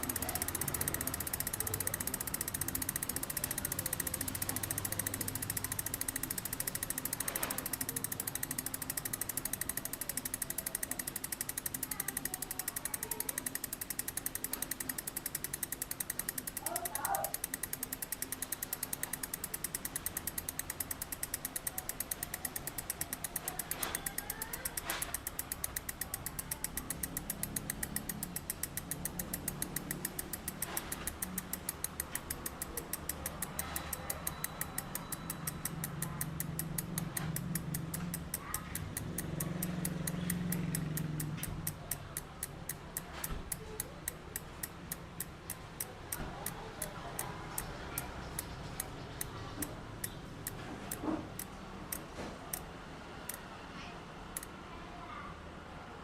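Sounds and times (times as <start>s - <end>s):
freehub pawls clicking: 0.0s - 53.6s.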